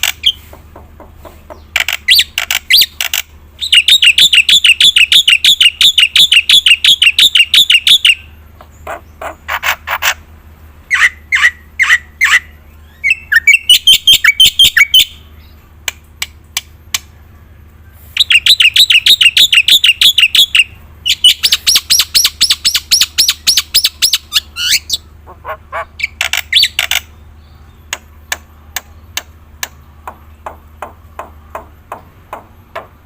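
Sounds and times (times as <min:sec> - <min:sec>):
starling singing: 0:00.0 - 0:15.7, 0:16.6 - 0:33.0.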